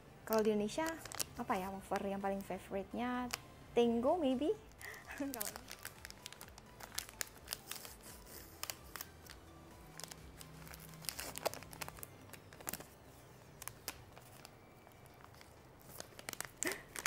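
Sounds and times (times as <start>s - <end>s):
plastic wrapper crinkling and tearing: 0.3s - 3.5s, 4.6s - 17.0s.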